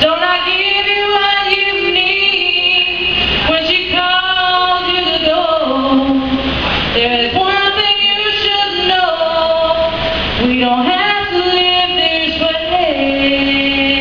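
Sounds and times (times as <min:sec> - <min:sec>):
woman singing a cappella: 0:00.0 - 0:14.0.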